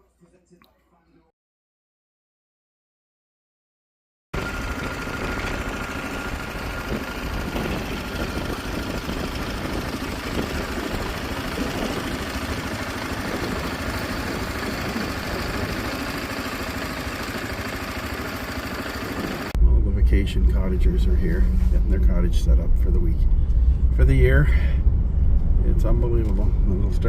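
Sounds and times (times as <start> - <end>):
vehicle engine and road noise: 4.4 - 27.0.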